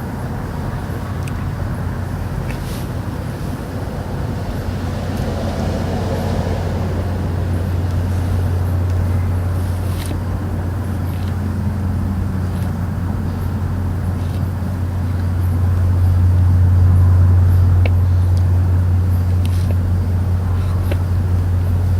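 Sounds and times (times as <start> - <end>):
rumbling background: 0.0 - 21.9
steady low drone: 0.0 - 21.9.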